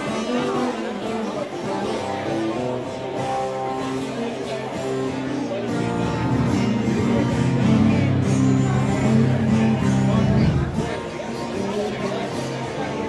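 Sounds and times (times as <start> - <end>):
crowd chatter: 0.0 - 13.0
live music playing: 0.0 - 13.0.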